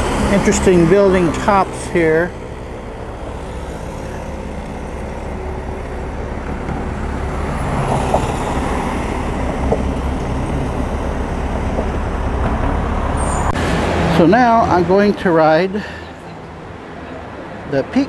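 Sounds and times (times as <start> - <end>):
bus rumbling: 0.0 - 18.0
road traffic: 0.0 - 18.0.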